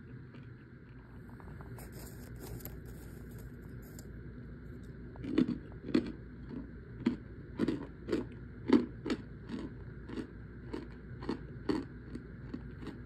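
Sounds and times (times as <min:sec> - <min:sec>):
dry crunches of chewing: 0:00.3 - 0:04.1, 0:04.8 - 0:13.0.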